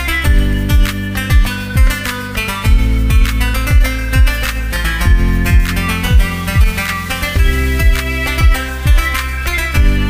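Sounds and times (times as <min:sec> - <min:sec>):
plucked acoustic guitar melody: 0:00.0 - 0:10.0
deep kick drum beat: 0:00.2 - 0:06.8, 0:07.4 - 0:09.2, 0:09.8 - 0:10.0.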